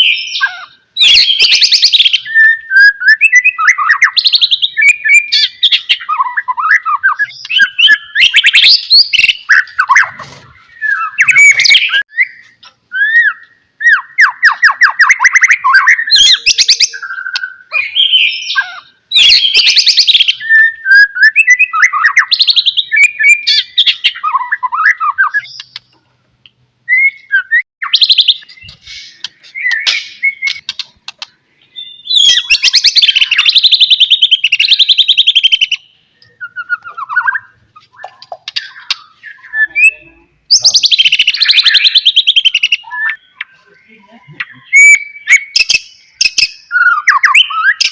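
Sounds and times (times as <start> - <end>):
bird singing whistles and trills: 0.0 - 25.9, 26.9 - 30.8, 31.6 - 47.9.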